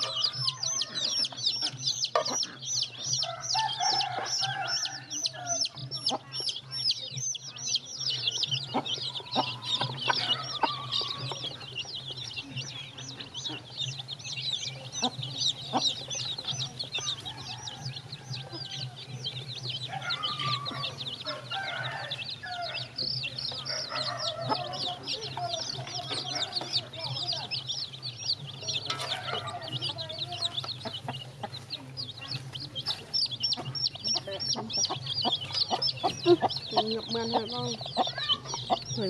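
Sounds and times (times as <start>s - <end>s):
chickens calling: 0.0s - 39.0s
chicks peeping: 0.0s - 39.0s.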